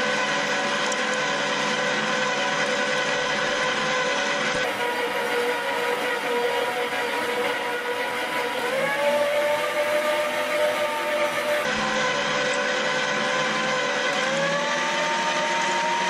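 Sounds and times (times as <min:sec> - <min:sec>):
meat grinder motor whining: 0:00.0 - 0:16.0.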